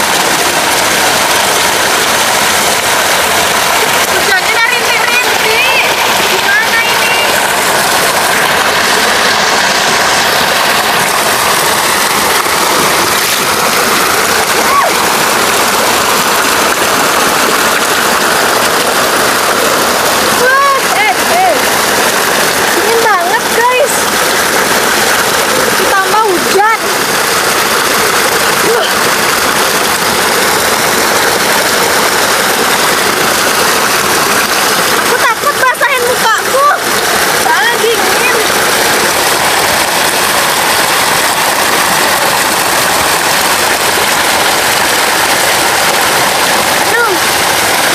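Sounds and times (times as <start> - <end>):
water pouring into a pool: 0.0 - 47.9.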